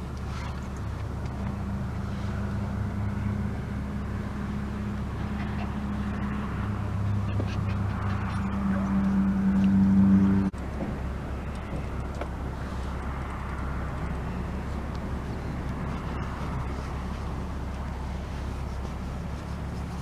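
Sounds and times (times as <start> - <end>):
low mechanical hum: 0.0 - 20.0
low outdoor background rumble: 0.0 - 20.0.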